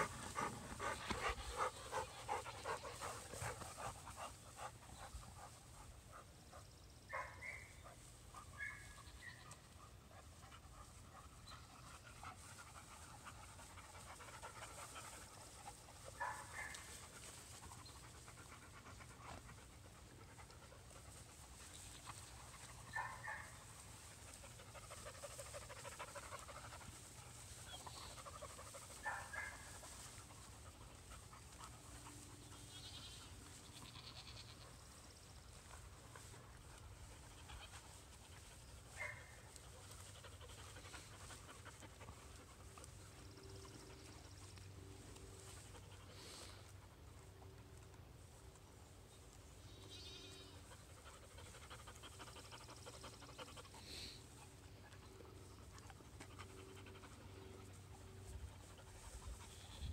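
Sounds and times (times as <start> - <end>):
dogs panting: 0.0 - 33.8, 34.5 - 49.6, 50.5 - 59.9.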